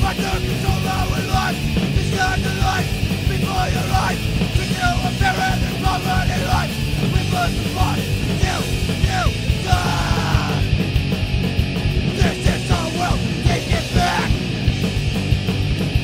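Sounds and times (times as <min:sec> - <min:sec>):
punk band playing: 0:00.0 - 0:16.0.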